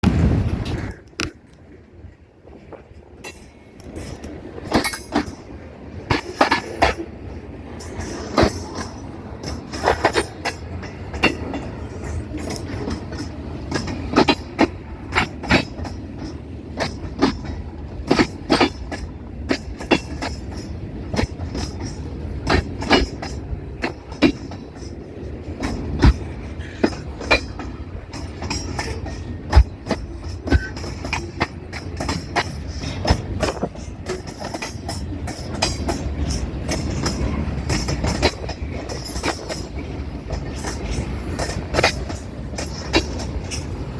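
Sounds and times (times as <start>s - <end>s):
train rumbling past: 0.0s - 43.9s
wheels clacking over rail joints: 0.0s - 43.9s.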